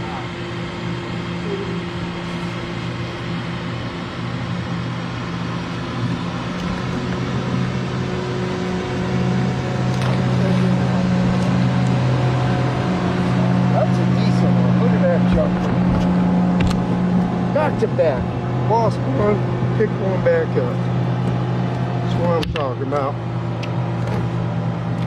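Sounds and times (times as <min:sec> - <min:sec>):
boat motor humming: 0:00.0 - 0:25.0.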